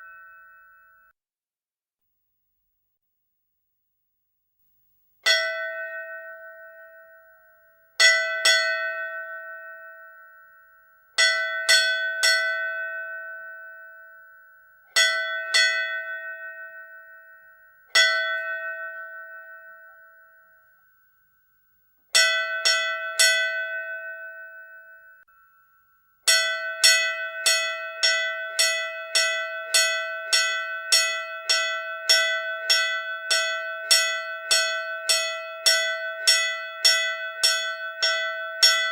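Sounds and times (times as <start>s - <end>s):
temple bell ringing: 0.0s - 1.2s, 5.2s - 21.2s, 22.2s - 38.9s.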